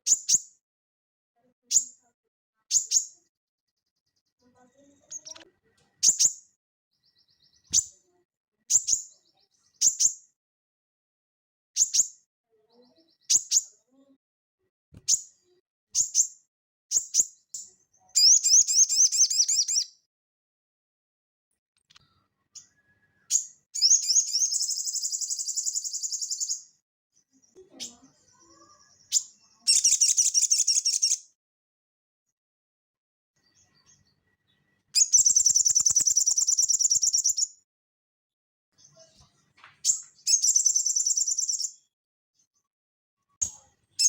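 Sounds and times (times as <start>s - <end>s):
songbird chirping and trilling: 0.0s - 0.6s, 1.4s - 10.4s, 11.8s - 14.2s, 15.0s - 20.1s, 21.8s - 31.4s, 33.4s - 37.7s, 38.7s - 44.0s.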